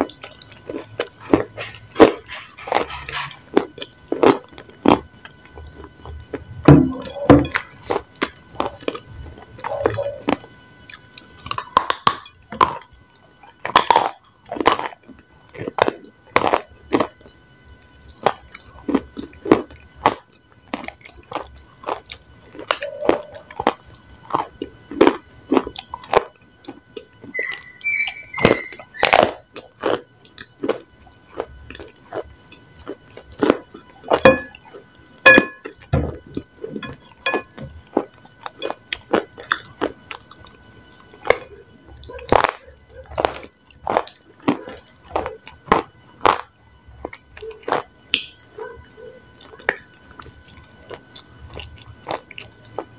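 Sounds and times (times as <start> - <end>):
crunching and chewing: 0.0 - 52.9.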